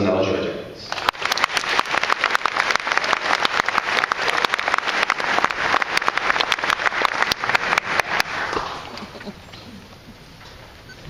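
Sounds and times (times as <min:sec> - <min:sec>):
audience applauding: 0:00.9 - 0:09.9.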